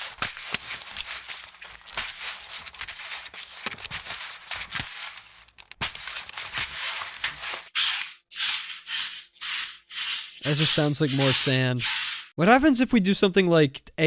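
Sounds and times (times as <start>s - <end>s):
gritty crunching and scraping: 0.0s - 12.4s.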